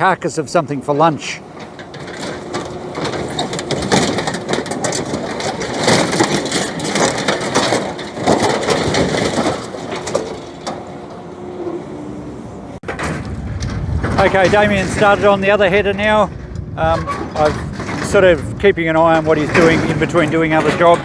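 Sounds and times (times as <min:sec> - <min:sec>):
excavator engine running: 0:00.0 - 0:21.0
metal crunching and snapping: 0:01.0 - 0:11.9, 0:12.8 - 0:21.0.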